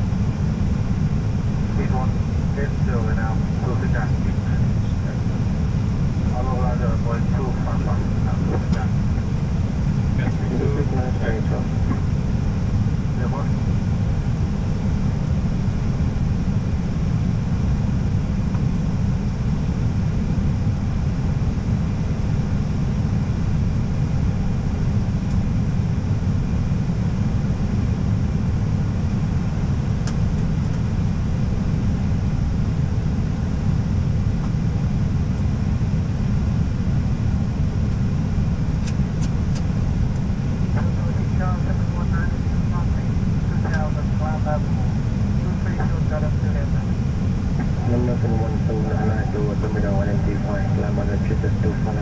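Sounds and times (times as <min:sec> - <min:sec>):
cockpit airflow and engine rumble: 0:00.0 - 0:52.0.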